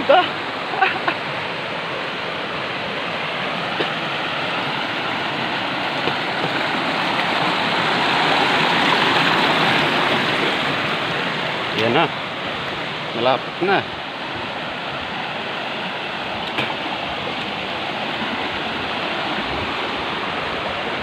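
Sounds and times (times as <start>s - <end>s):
stream rushing over stones: 0.0s - 21.0s.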